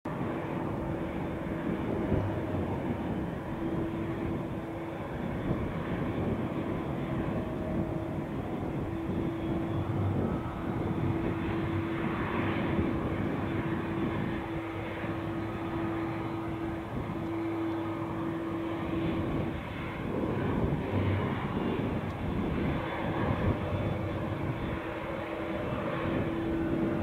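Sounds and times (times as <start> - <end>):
jet engines at taxi power: 0.0 - 27.0
low humming tone: 0.1 - 27.0.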